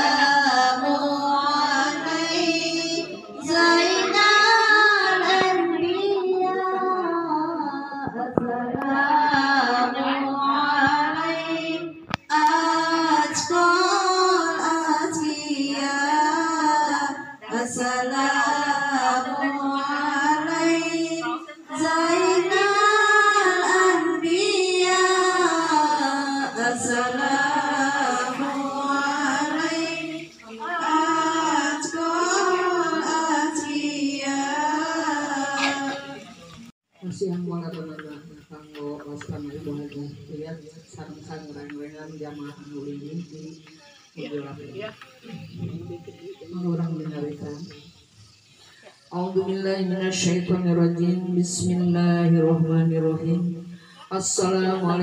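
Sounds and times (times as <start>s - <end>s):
woman singing chant: 0.0s - 41.8s, 44.8s - 55.0s.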